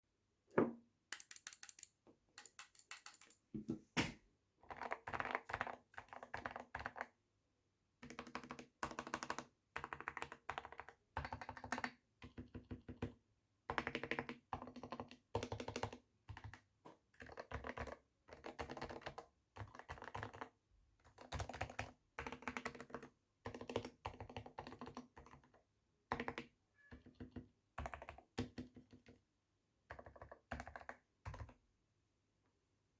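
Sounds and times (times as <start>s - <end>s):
muted mechanical keyboard typing: 1.1s - 3.4s, 4.7s - 7.1s, 8.0s - 29.2s, 29.9s - 31.6s.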